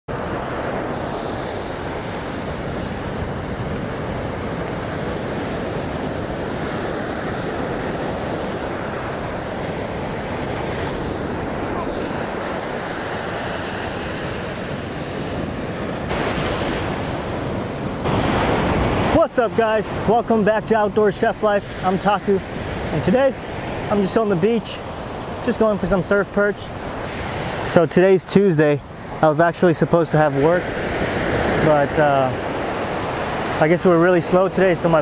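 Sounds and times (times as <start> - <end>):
ocean surf breaking: 0.1 - 35.0.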